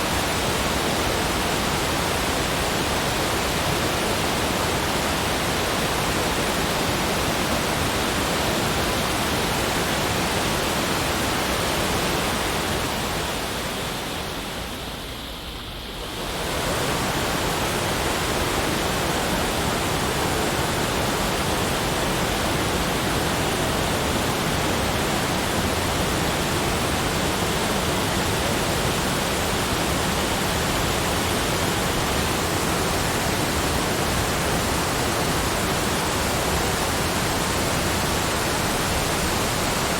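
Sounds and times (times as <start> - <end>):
steady broadband rushing noise: 0.0 - 39.9.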